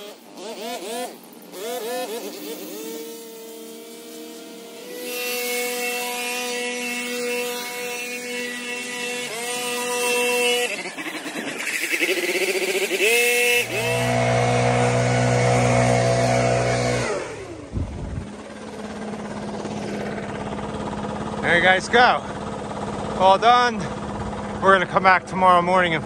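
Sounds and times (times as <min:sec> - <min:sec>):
leaf blower engine revving: 0:00.0 - 0:26.0.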